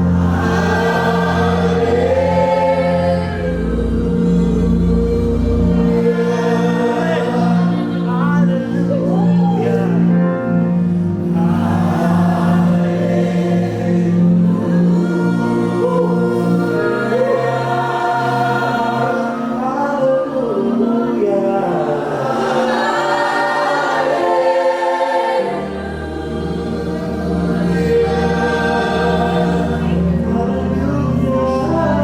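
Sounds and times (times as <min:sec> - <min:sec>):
voices singing gospel music: 0:00.0 - 0:32.0.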